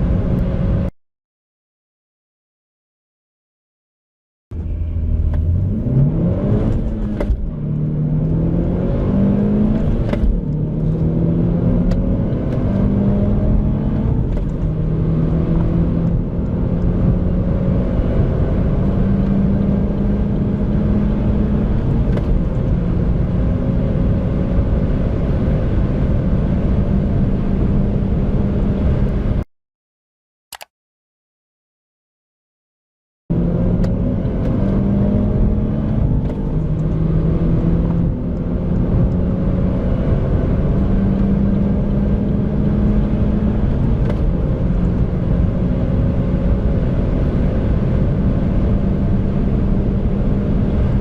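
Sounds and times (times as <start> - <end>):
car engine accelerating hard: 4.5 - 29.4, 33.3 - 51.0.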